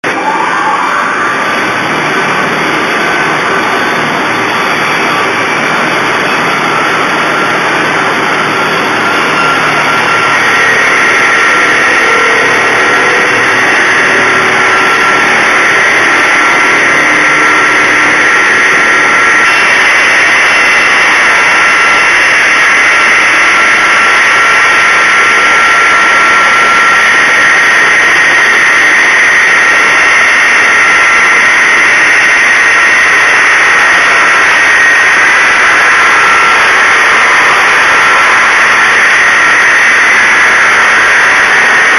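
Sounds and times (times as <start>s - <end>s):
rip saw whining: 0.0s - 41.9s.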